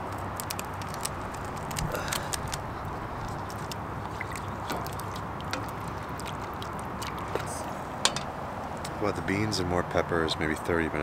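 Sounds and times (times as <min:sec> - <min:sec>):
campfire crackling: 0:00.0 - 0:10.7.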